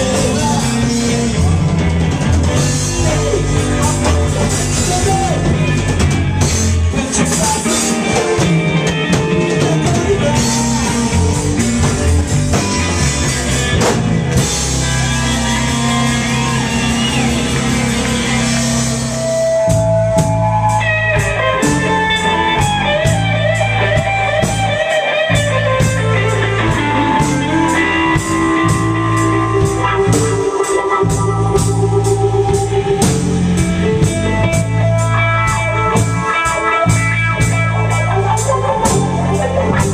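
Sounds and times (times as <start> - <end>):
blues-rock band playing: 0.0 - 39.9
electric guitar lead with bent notes: 0.0 - 39.9.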